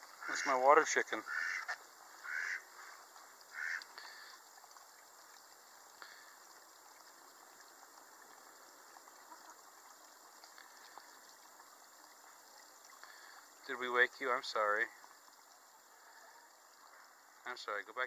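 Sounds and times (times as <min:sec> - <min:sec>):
faint stream trickling: 0:00.0 - 0:18.0.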